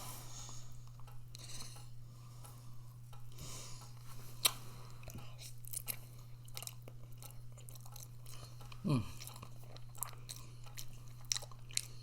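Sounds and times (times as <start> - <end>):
person chewing food: 0.0 - 12.0
steady low hum: 0.0 - 12.0.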